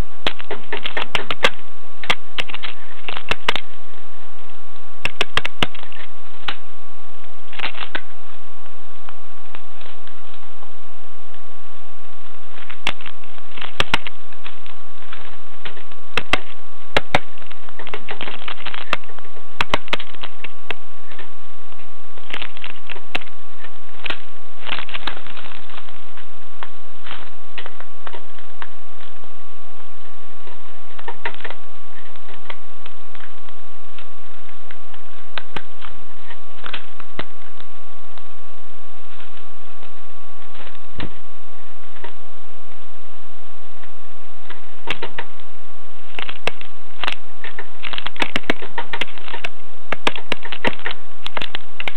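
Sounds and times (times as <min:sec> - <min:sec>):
steady thin whine: 0:00.0 - 0:51.9.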